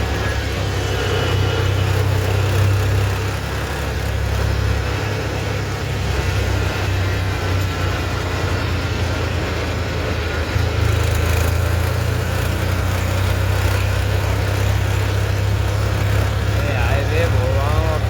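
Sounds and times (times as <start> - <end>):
tractor diesel engine: 0.0 - 18.0.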